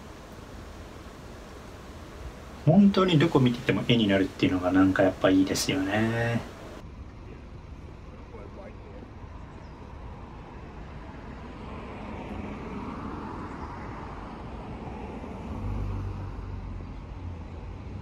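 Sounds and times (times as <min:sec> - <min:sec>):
vehicle passing: 0:00.0 - 0:06.8, 0:10.2 - 0:18.0
light road traffic passing: 0:00.0 - 0:18.0.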